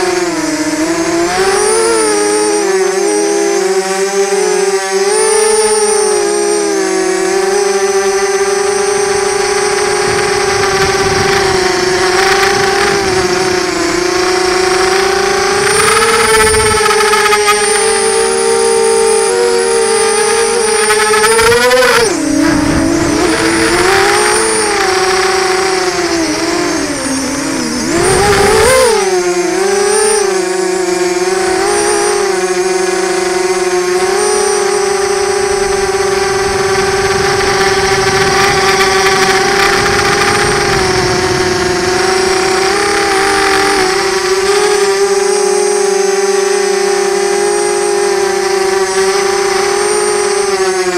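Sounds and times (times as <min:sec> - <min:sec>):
drone motors whining: 0:00.0 - 0:50.9.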